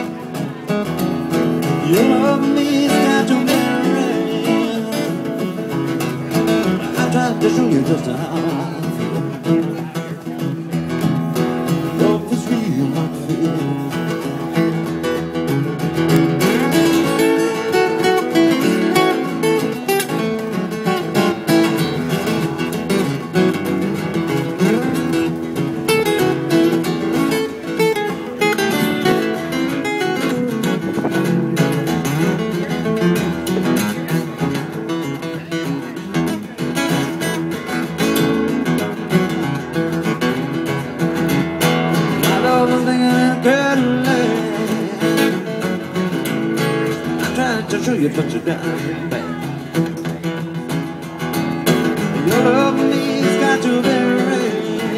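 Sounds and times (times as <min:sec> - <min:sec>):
acoustic guitar strummed and picked: 0:00.0 - 0:54.9.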